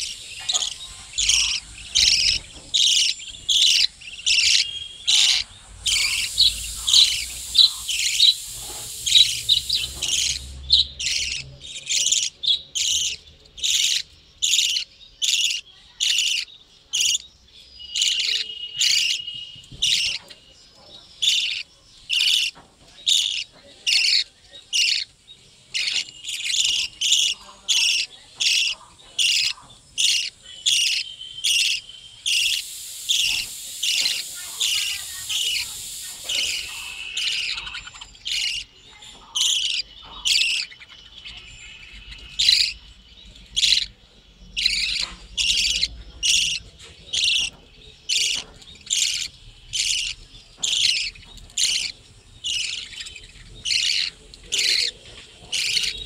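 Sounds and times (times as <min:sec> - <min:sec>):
budgerigars chirping: 0:00.0 - 0:56.0.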